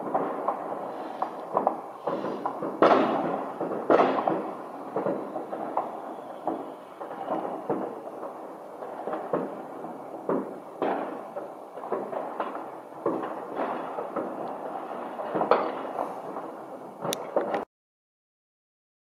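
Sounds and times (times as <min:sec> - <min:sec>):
aerial firework shell bursts: 0:00.0 - 0:17.4
firecracker bangs: 0:00.0 - 0:17.7.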